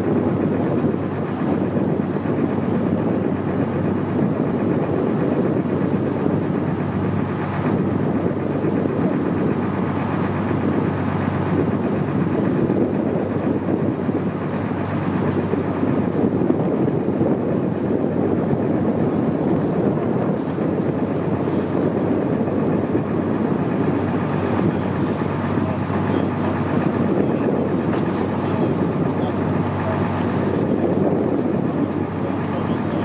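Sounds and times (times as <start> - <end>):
motorboat engine running: 0.0 - 33.0
rushing water: 0.0 - 33.0
wind noise: 0.0 - 33.0.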